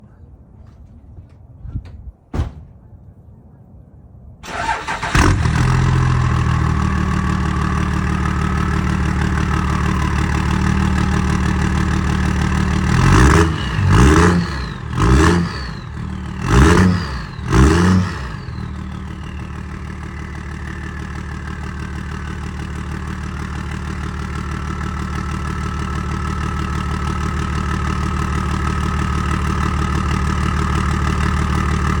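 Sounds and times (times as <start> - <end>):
diesel engine revving: 4.4 - 32.0
diesel engine starting and idling: 4.4 - 32.0.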